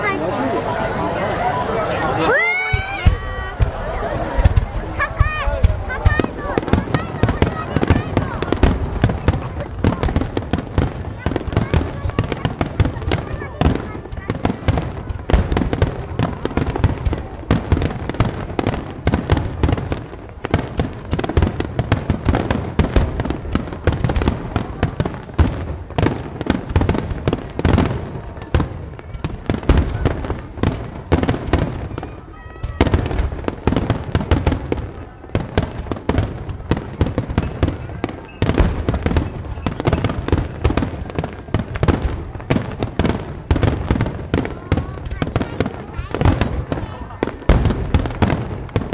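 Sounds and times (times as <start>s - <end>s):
fireworks booms and crackles: 0.0s - 48.9s.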